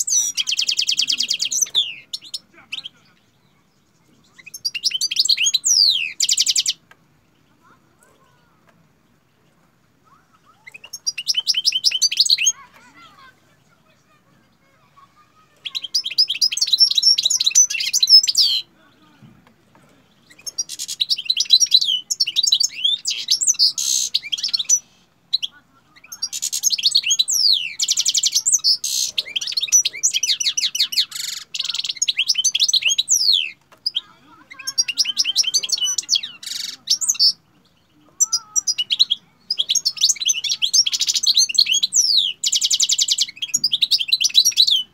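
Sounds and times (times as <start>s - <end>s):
goldfinch singing: 0.0s - 44.9s.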